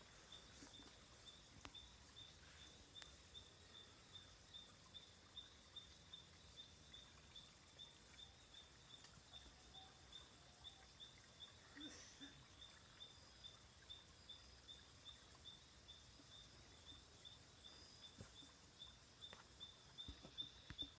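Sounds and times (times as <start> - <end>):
low steady hiss: 0.0 - 20.9.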